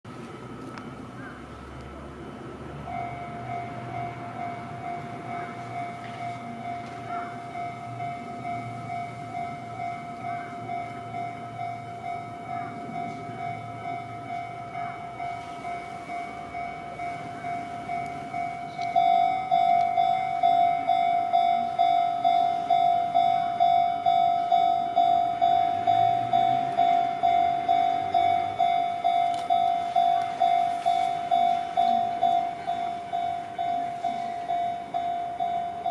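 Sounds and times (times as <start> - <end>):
level crossing alarm dinging: 2.9 - 35.9.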